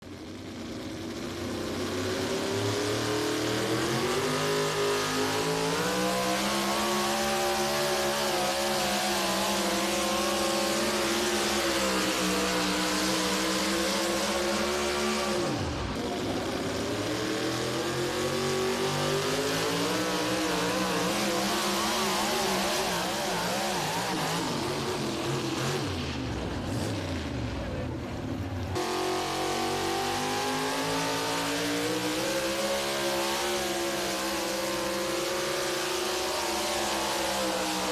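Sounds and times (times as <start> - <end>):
truck engine at high revs: 0.0 - 37.9.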